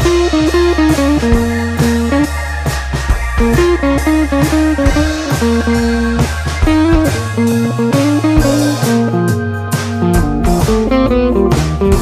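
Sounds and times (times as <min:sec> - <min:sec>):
plucked guitar melody: 0:00.0 - 0:12.0
regular beat: 0:00.0 - 0:12.0
steady bass: 0:00.0 - 0:12.0.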